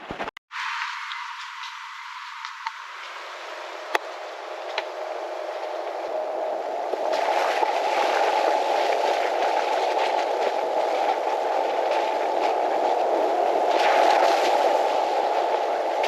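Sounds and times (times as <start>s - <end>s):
creek water rushing: 0.6s - 16.0s.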